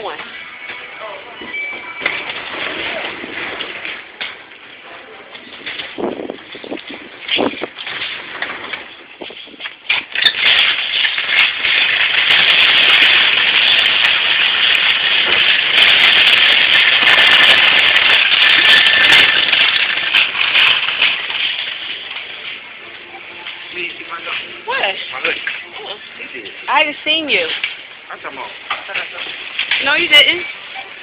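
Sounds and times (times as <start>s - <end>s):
shopping cart rattling: 1.8s - 22.6s, 26.7s - 31.0s.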